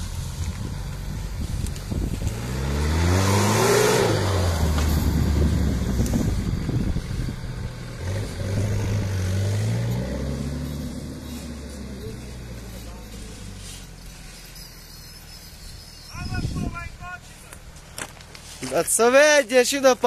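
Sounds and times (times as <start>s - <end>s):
vehicle engine revving: 0.0s - 16.6s.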